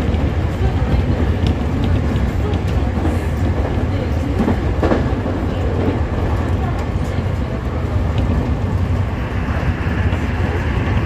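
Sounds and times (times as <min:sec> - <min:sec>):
light clicks over tracks: 0:00.0 - 0:11.0
train wheels rumbling on rails: 0:00.0 - 0:11.0.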